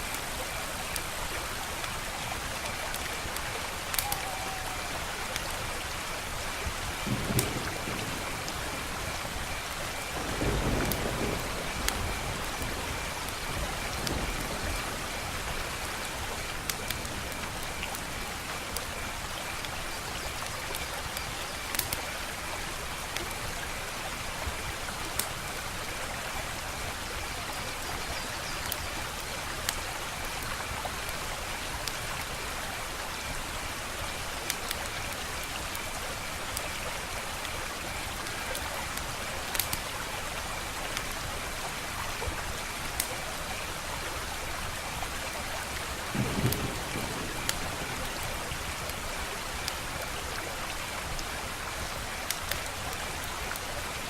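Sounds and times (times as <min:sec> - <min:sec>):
wood fire crackling: 0:00.0 - 0:23.4, 0:28.6 - 0:54.0.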